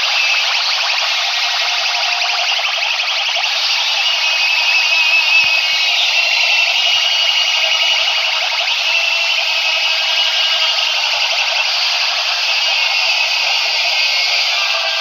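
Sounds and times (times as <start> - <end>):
distorted sound systems blaring: 0.0 - 15.0.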